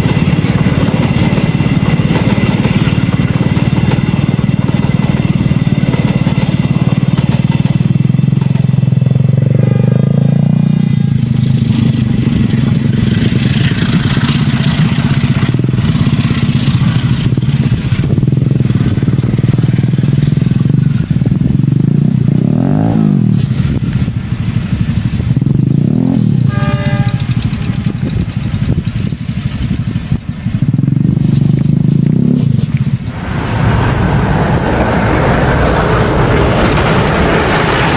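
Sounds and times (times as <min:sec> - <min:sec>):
locomotive engine drone: 0:00.0 - 0:37.9
train rolling noise: 0:00.0 - 0:37.9.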